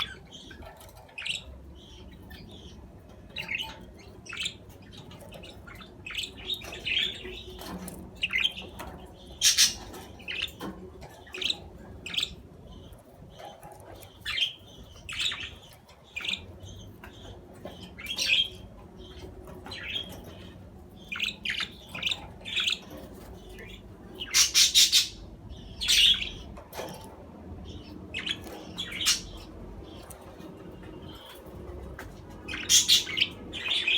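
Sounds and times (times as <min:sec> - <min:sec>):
budgerigars chirping and squawking: 0:00.0 - 0:33.9.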